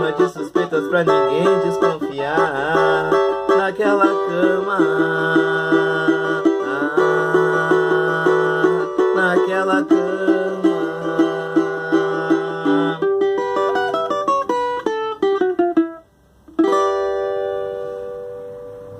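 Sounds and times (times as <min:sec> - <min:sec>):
plucked string instrument: 0:00.0 - 0:18.9.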